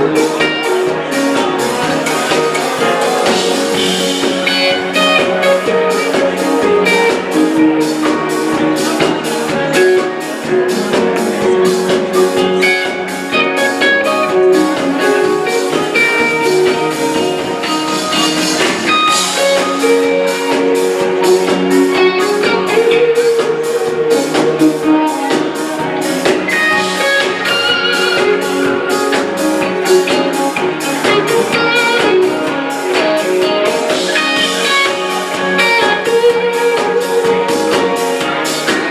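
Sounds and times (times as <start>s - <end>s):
electric guitar lines: 0.0s - 38.9s
steady drum beat: 0.0s - 38.9s.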